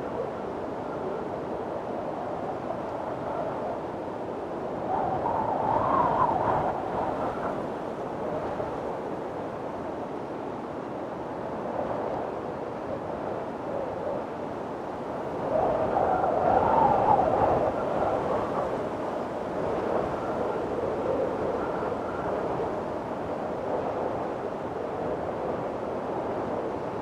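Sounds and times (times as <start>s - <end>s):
strong wind blowing: 0.0s - 27.0s.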